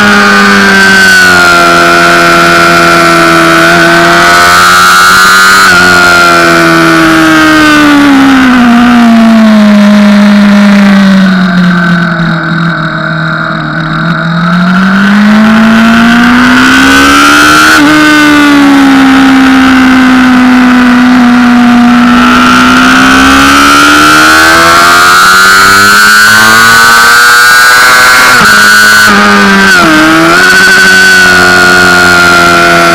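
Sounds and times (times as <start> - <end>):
motorcycle engine at high revs: 0.0 - 32.9.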